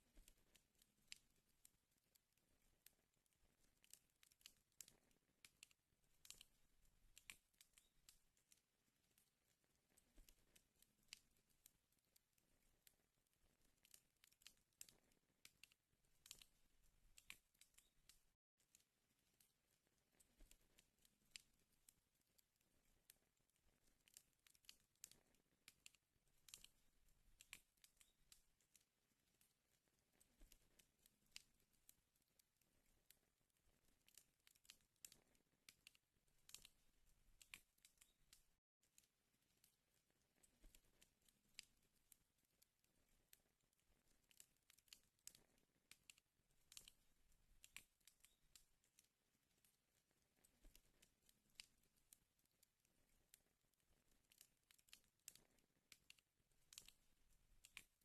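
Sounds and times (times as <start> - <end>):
fire crackling and popping: 0.0 - 51.9, 52.9 - 58.0.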